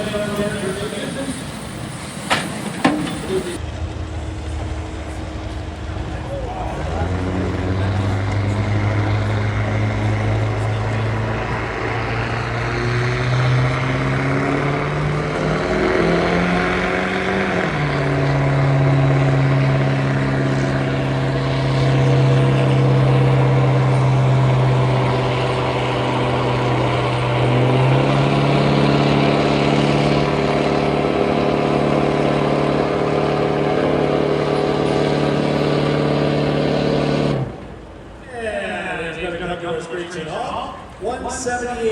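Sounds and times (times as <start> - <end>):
diesel truck engine revving: 0.0 - 38.3.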